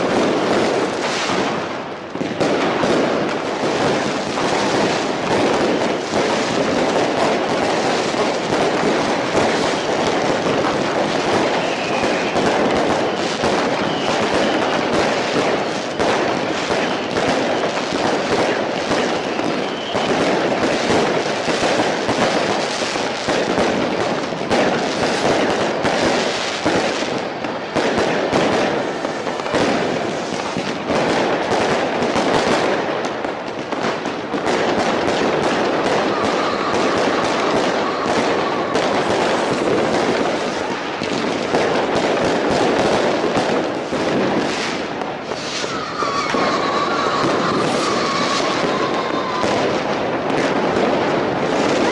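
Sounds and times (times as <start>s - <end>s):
fireworks crackling and banging: 0.0s - 51.9s.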